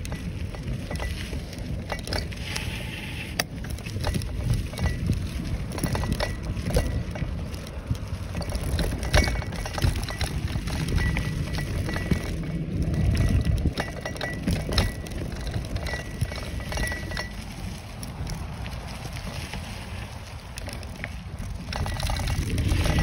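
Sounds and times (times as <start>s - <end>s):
bicycle chain and frame rattling: 0.0s - 23.0s
bicycle tyres and wind rumbling: 0.0s - 23.0s.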